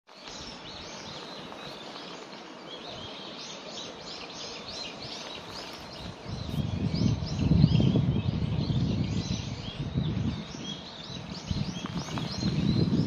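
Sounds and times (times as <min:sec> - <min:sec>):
faint outdoor hiss: 0:00.1 - 0:13.0
small birds chirping: 0:00.1 - 0:13.0.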